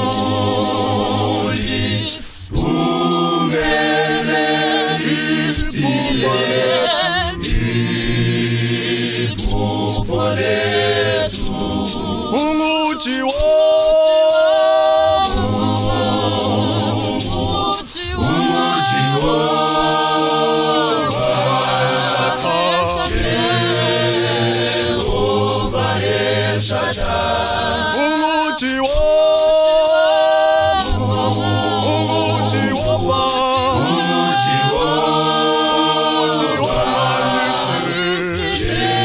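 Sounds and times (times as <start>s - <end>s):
choir singing a hymn: 0.0s - 39.0s.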